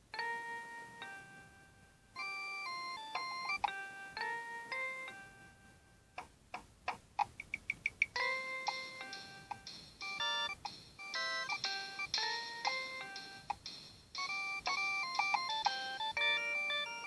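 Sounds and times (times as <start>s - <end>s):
synthesized ringtone melody: 0.2s - 5.9s, 8.0s - 17.0s.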